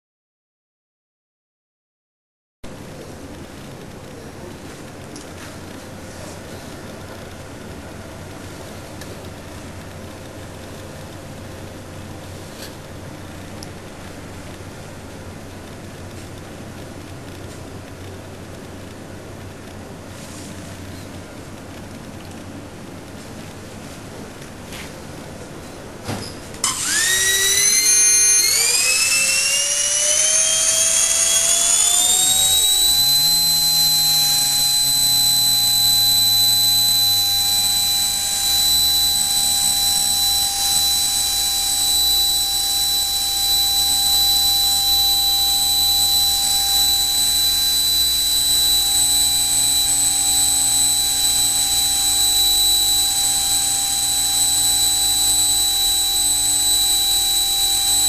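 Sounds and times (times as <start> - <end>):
electric ducted fan whine: 2.7 - 58.0.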